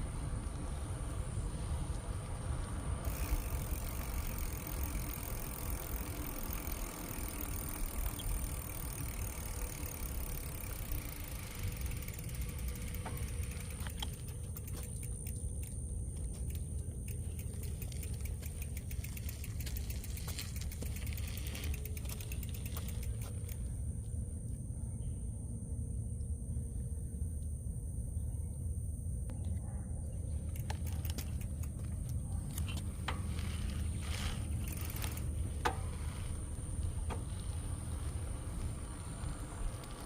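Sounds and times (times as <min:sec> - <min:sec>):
freewheel hub ticking: 0:00.0 - 0:23.7, 0:30.5 - 0:40.0
bicycle tyre rumble: 0:00.0 - 0:24.4, 0:30.3 - 0:40.0
wind: 0:00.0 - 0:40.0.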